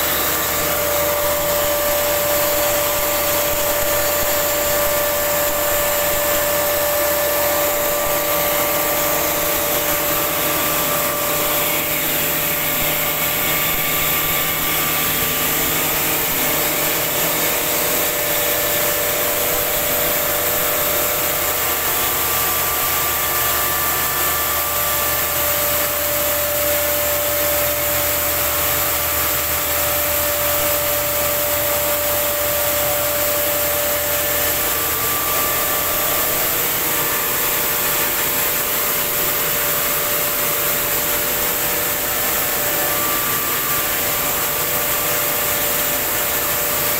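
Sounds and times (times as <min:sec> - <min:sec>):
flour mill motor whine: 0:00.0 - 0:46.9.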